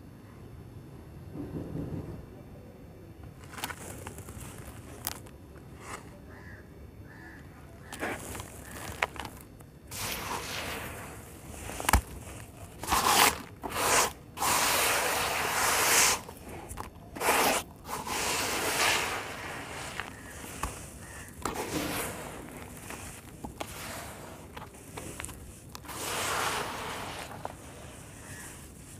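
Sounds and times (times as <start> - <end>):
dirt crumbling and pouring: 3.4 - 6.0, 7.8 - 28.9.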